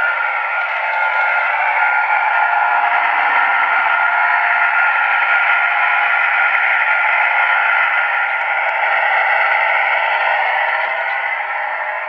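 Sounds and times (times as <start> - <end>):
diesel engine sound from small speaker: 0.0 - 12.0.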